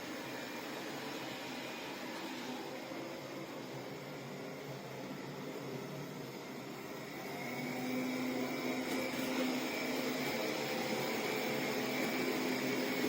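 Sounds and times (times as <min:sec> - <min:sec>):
robot vacuum cleaner humming: 0:00.0 - 0:13.0.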